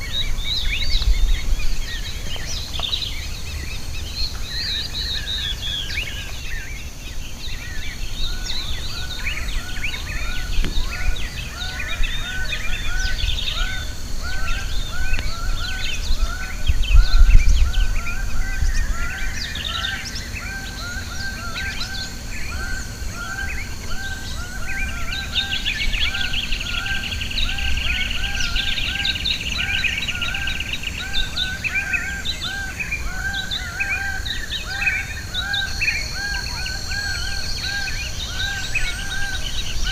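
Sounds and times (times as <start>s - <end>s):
birds singing and calling: 0.0s - 39.9s.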